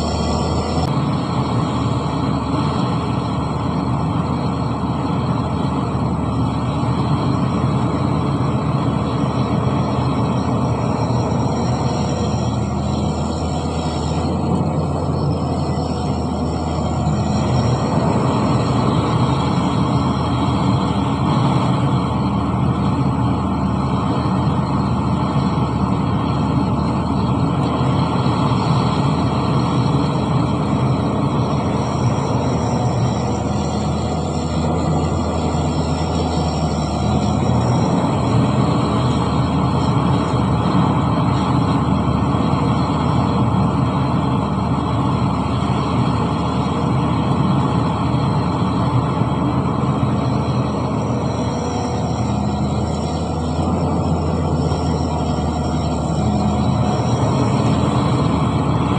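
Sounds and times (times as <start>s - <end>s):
heavy machinery diesel engines: 0.0s - 58.9s.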